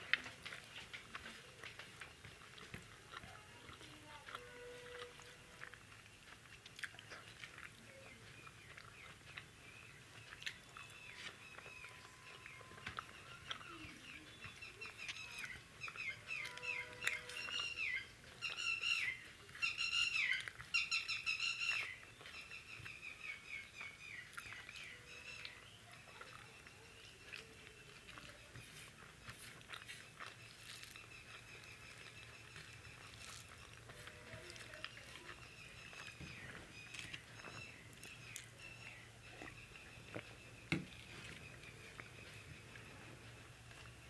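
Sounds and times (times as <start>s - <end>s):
chewing: 0.0s - 44.0s
fingers clicking mixing rice: 0.0s - 44.0s
bird chirping: 7.0s - 44.0s.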